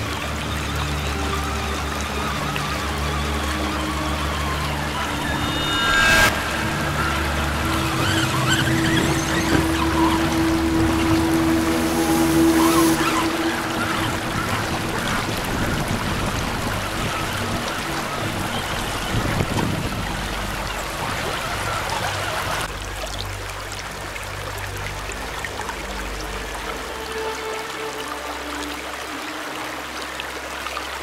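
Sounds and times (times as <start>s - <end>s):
river current rushing and splashing: 0.0s - 31.0s.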